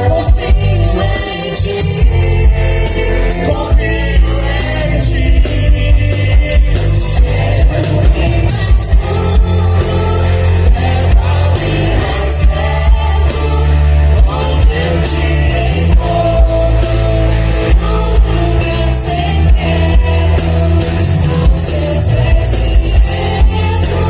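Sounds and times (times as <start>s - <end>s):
person singing: 0.0s - 24.0s
worship song played by a band: 0.0s - 24.0s.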